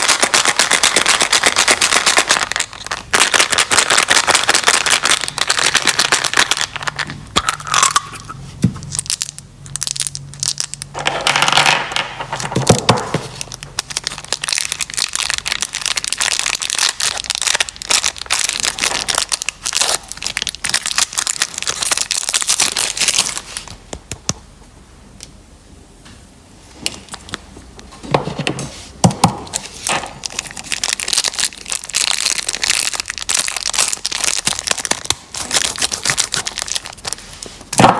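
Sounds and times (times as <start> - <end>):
plastic wrappers crinkling: 0.0 - 24.3, 29.4 - 37.9.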